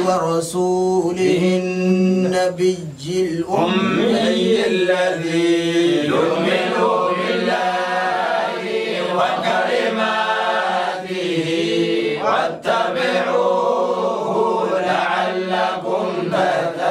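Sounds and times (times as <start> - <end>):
men chanting together: 0.0 - 16.9.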